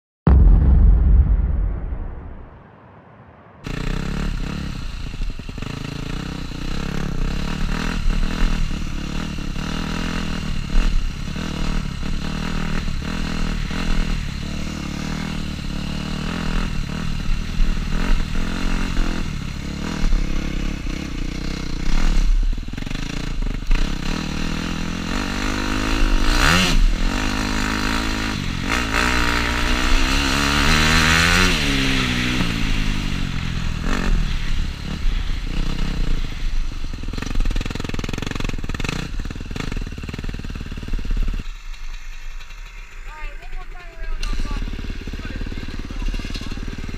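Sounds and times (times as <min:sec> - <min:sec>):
dirt bike engine revving: 0:03.7 - 0:46.9.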